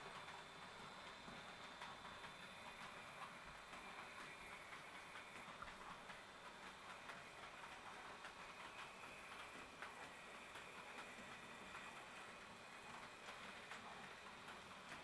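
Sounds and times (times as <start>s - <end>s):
model train clicking over track: 0.0s - 15.0s.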